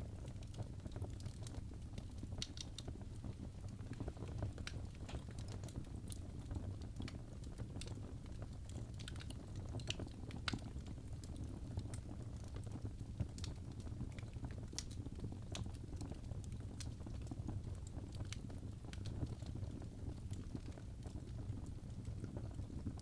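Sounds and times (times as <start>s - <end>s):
fire crackling and popping: 0.0s - 23.0s
fire low rumble: 0.0s - 23.0s.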